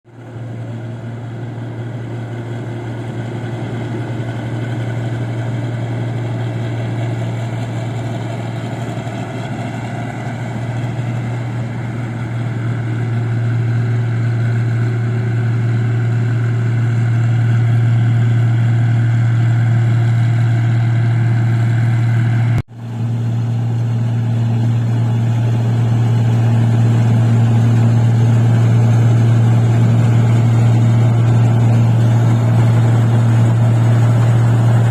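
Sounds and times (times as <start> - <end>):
combine harvester engine humming: 0.1 - 34.9.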